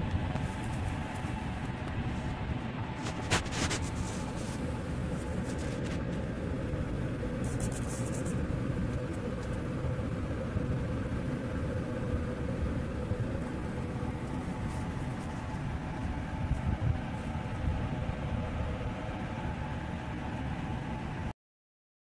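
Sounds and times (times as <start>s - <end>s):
faint steady hum: 0.0s - 21.3s
low rumbling background noise: 0.0s - 21.3s.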